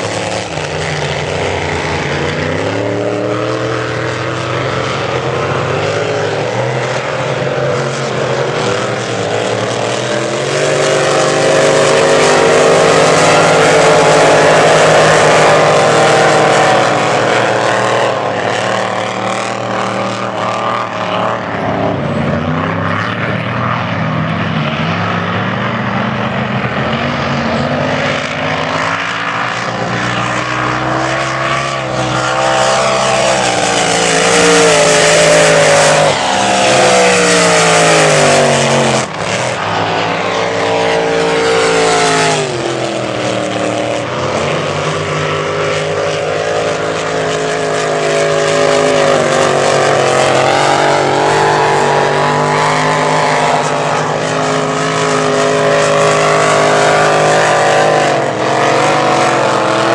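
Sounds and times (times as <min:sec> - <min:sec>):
race boat engines roaring past: 0:00.0 - 0:59.9.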